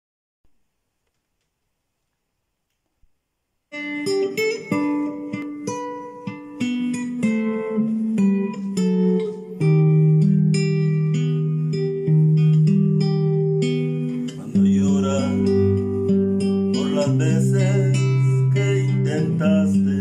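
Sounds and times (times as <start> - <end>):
guitar chords: 3.7 - 20.0.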